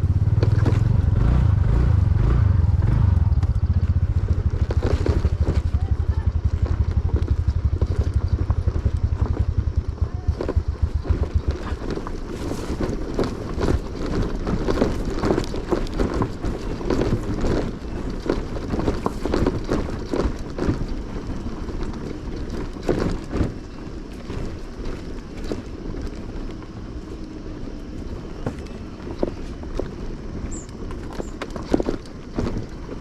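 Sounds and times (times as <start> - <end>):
motorcycle engine running low: 0.0 - 33.0
wind buffeting microphone: 0.0 - 33.0.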